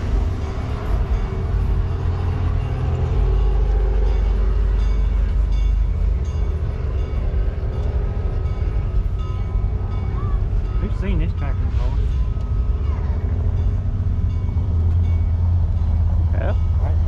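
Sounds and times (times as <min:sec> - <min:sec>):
large engine rumbling: 0:00.0 - 0:17.0.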